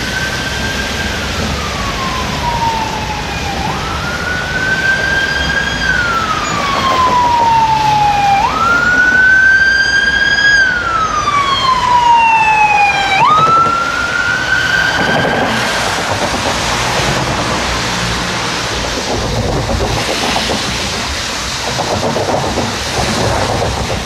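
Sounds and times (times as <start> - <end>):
city traffic on wet street: 0.0 - 24.0
siren wailing: 0.0 - 24.0.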